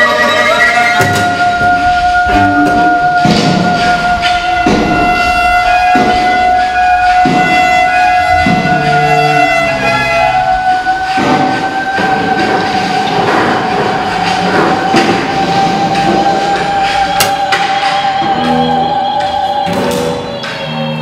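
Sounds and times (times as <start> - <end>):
scratchy cello strokes: 0.0 - 18.9
long high note: 0.0 - 21.0.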